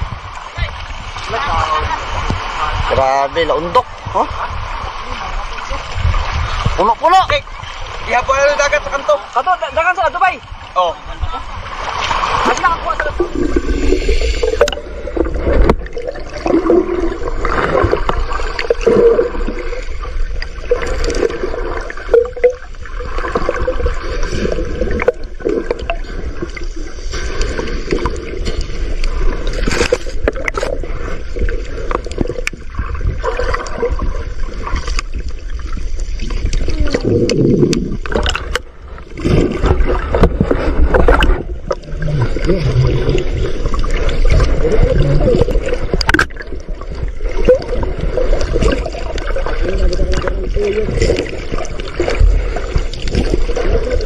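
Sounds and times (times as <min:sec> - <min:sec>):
muffled underwater gurgling rush: 0:00.0 - 0:54.0.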